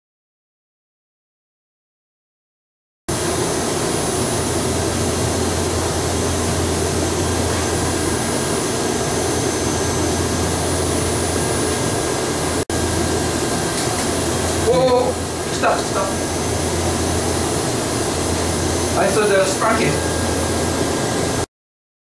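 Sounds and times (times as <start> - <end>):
machinery whirring and humming: 3.1 - 21.5.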